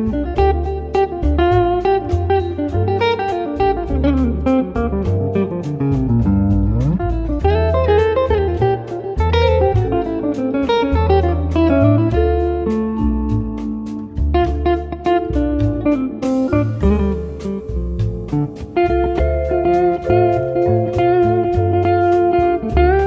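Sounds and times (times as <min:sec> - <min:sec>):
bass: 0:00.0 - 0:23.0
bluesy electric guitar: 0:00.0 - 0:23.0
steady drum beat: 0:00.3 - 0:23.0.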